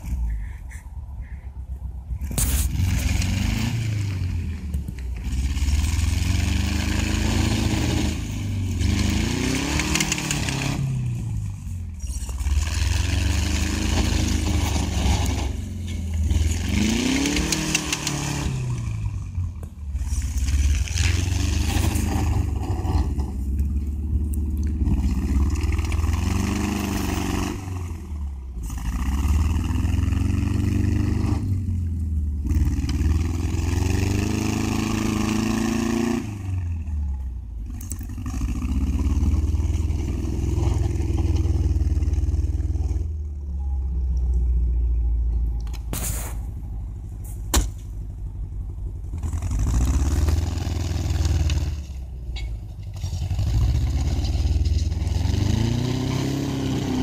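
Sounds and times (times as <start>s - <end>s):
snow vehicle engine revving: 2.2s - 43.8s, 45.9s - 52.2s, 52.8s - 57.0s.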